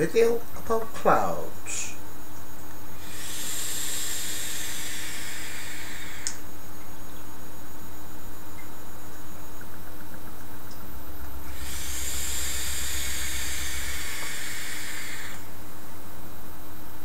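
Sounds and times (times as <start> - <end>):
electronic cigarette coil sizzling: 0.0 - 10.8, 11.4 - 16.1.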